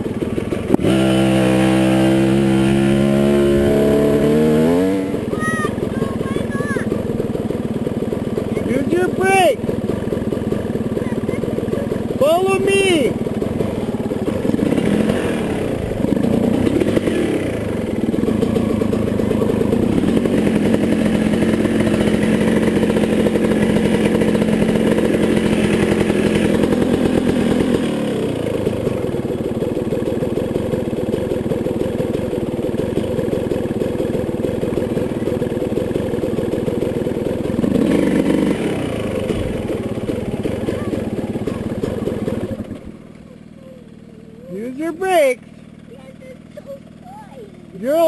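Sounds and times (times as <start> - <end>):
dirt bike engine running: 0.0 - 48.0.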